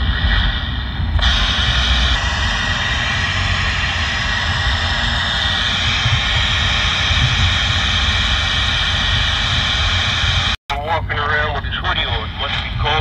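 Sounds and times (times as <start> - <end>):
road and engine noise in vehicle: 0.0 - 13.0.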